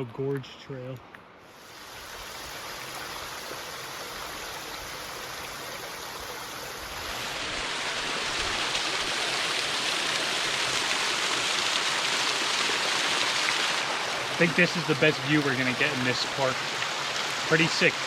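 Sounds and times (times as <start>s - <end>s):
waterfall rushing water: 1.6s - 18.0s.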